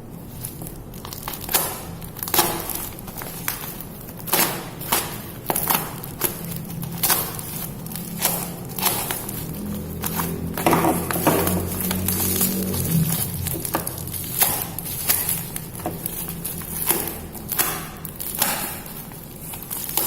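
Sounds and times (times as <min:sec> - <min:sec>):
packaging crinkling and tapping: 0:00.3 - 0:20.0.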